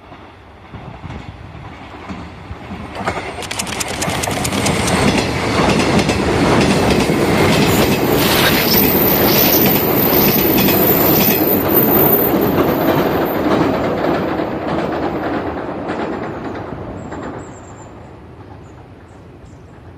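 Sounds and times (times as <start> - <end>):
train wheels clacking on rails: 0.0 - 19.9.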